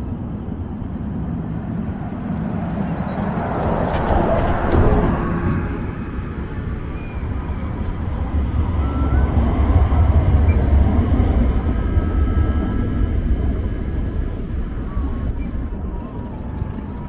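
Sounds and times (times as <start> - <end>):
large vehicle passing rumble: 0.0 - 17.0.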